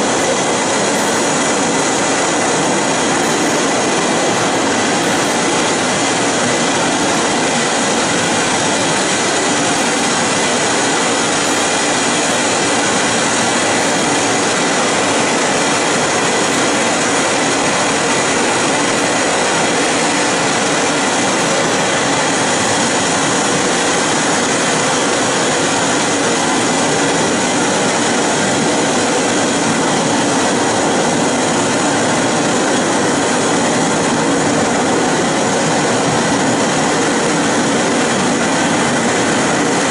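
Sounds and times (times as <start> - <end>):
loud electronic rushing noise: 0.0 - 37.2.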